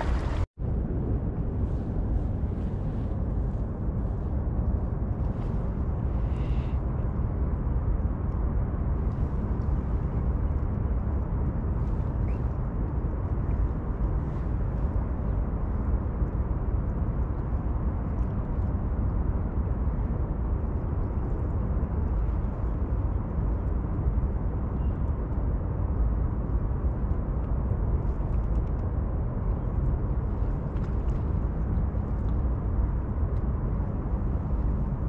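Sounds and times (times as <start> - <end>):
low outdoor rumble: 0.0 - 35.0.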